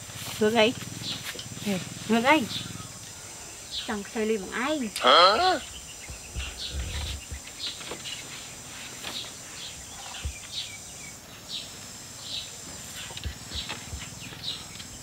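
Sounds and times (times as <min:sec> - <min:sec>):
high-pitched insect drone: 0:00.0 - 0:15.0
bird chirps: 0:00.6 - 0:15.0.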